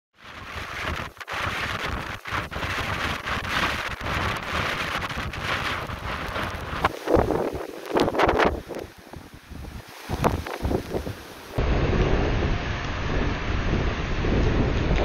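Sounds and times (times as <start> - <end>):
driving rain: 0.1 - 15.0
hurricane wind: 0.1 - 15.0
heavy surf breaking against seawall: 0.2 - 15.0.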